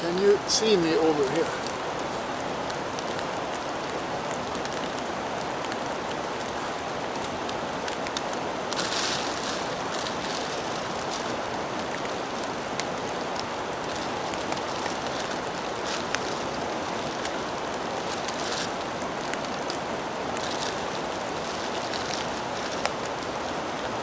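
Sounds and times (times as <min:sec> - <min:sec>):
steady rain in woodland: 0:00.0 - 0:24.0.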